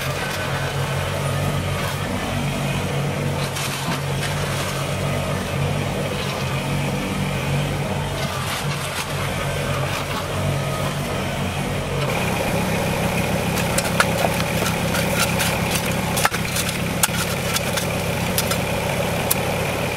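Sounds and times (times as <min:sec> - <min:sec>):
spade scraping gravelly soil: 0:00.0 - 0:11.2, 0:12.0 - 0:19.9
tractor diesel engine running: 0:00.0 - 0:19.9.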